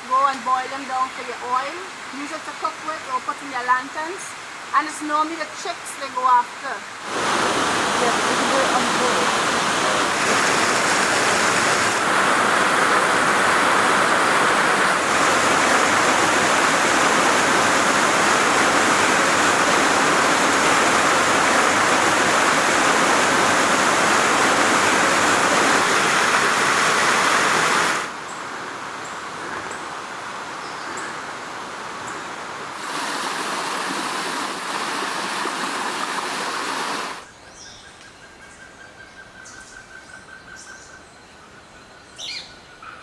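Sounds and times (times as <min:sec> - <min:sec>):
rush of flowing water: 0:00.0 - 0:37.3.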